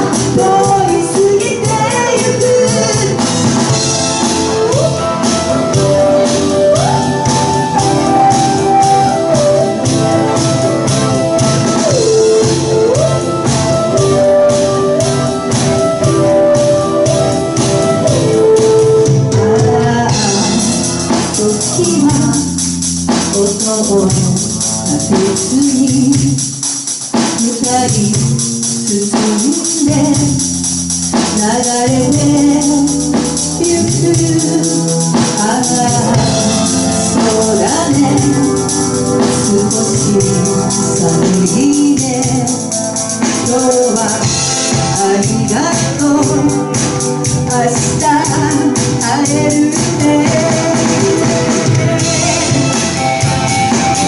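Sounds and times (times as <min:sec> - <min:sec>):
person singing: 0:00.0 - 0:22.6, 0:23.2 - 0:26.6, 0:27.4 - 0:30.4, 0:31.3 - 0:54.0
bass: 0:00.0 - 0:54.0
drums: 0:00.0 - 0:54.0
keyboard: 0:00.0 - 0:54.0.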